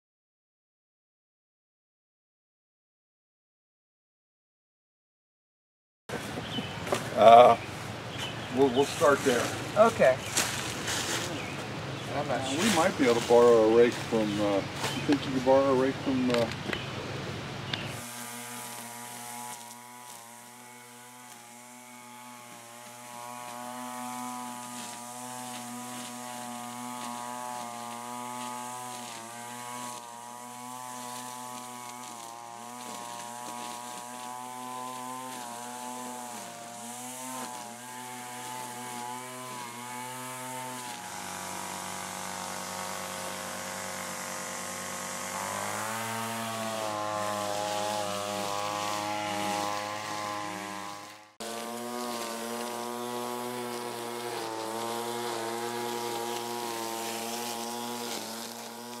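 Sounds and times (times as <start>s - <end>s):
distant string trimmer engine: 6.1s - 59.0s.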